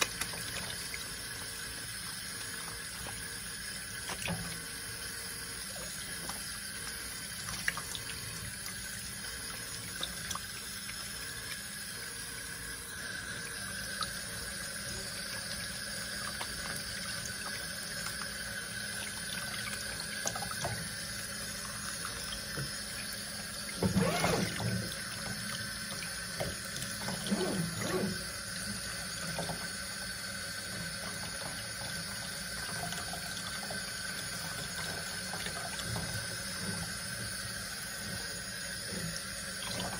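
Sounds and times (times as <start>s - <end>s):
water splashing in metal sink: 0.0s - 12.2s, 13.0s - 39.9s.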